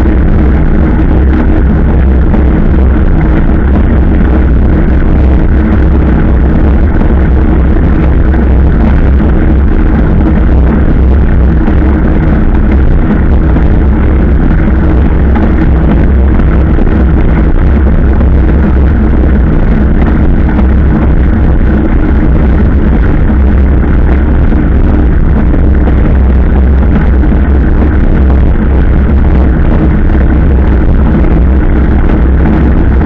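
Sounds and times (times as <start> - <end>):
motorcycle engine running: 0.0 - 33.0
wind rumble on microphone: 0.0 - 33.0.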